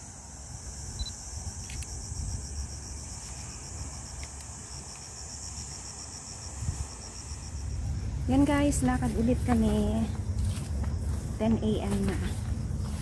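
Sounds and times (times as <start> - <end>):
insects chirring: 0.0 - 13.0
wind rumble on microphone: 0.6 - 13.0.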